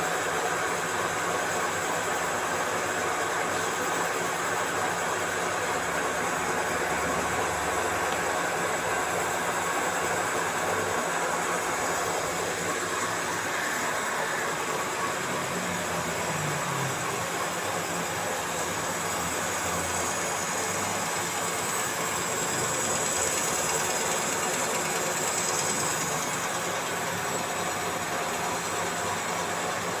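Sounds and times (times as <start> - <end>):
machine running: 5.2 - 30.0.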